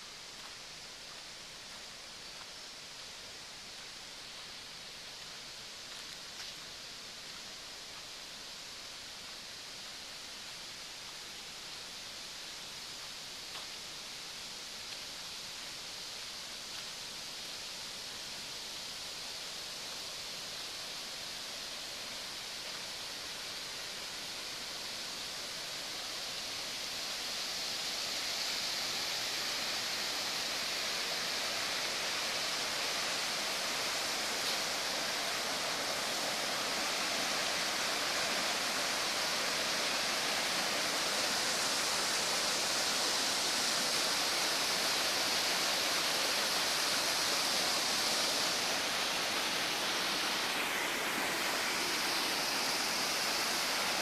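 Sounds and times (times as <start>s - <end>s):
rushing water hiss: 0.0s - 54.0s.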